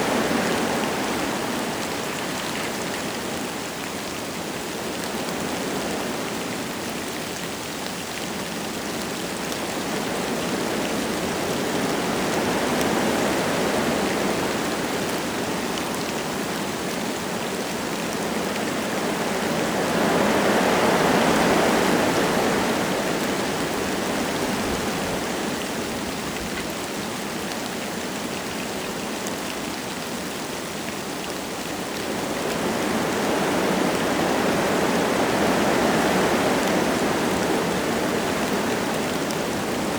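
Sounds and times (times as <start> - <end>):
light rain falling: 0.0 - 39.9
wind gusting through trees: 0.0 - 39.9.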